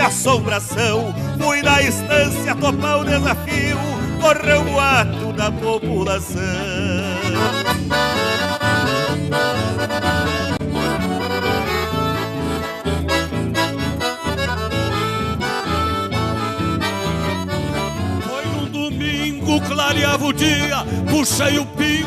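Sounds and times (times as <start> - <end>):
steady bass beat: 0.0 - 20.9
accordion band music: 0.0 - 22.0.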